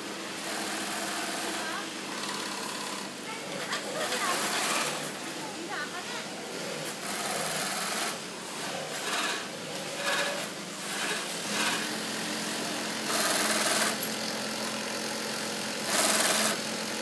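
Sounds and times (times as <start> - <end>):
sewing machine stitching: 0.4 - 5.3, 6.5 - 17.0.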